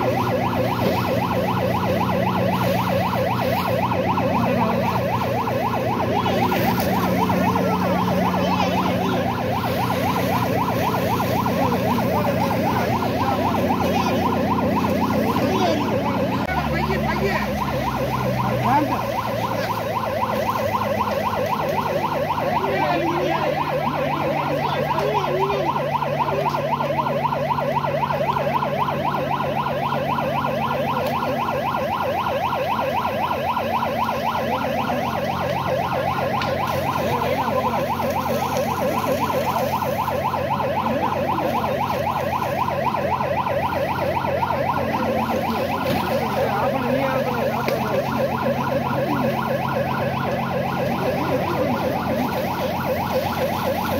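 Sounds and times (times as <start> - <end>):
emergency siren warbling: 0.0 - 53.9.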